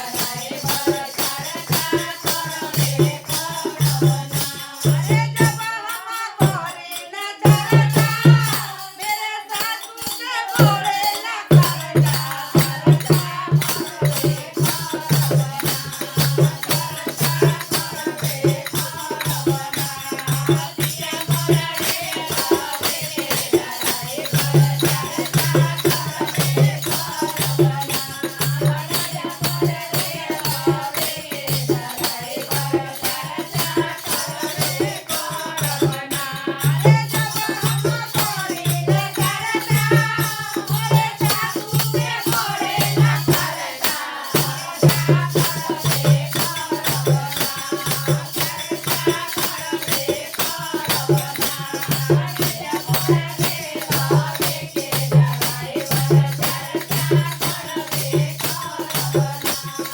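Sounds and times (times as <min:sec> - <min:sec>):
shaker playing fast strokes: 0:00.0 - 0:59.9.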